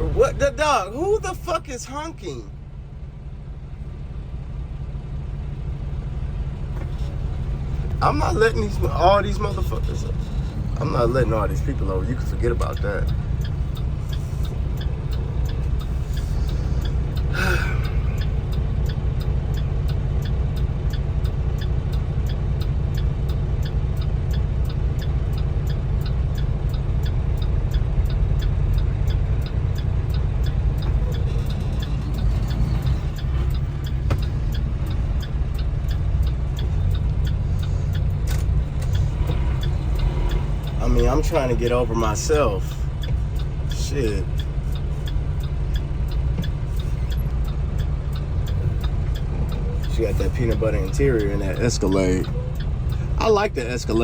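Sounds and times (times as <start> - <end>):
turn signal clicking: 0.0 - 2.4, 6.0 - 54.0
truck engine rumble: 0.0 - 54.0.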